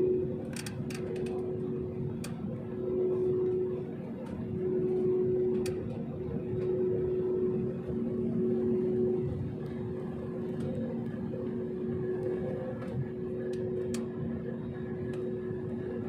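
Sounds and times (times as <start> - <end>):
airliner cabin engine hum: 0.0 - 16.0.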